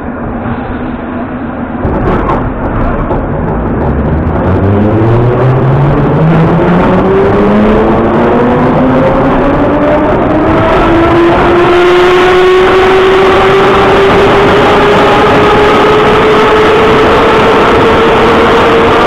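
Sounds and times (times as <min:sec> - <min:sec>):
rumble of wheels on rails: 0:00.0 - 0:19.0.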